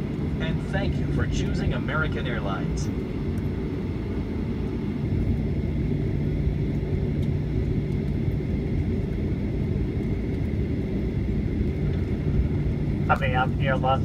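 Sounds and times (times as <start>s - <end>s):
airliner cabin rumble: 0.0s - 14.0s
faint high whine: 0.0s - 14.0s.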